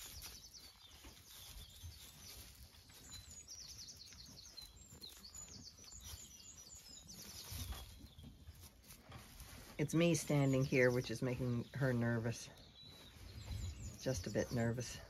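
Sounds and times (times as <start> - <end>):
songbird chirps and trills: 0.0 - 15.0.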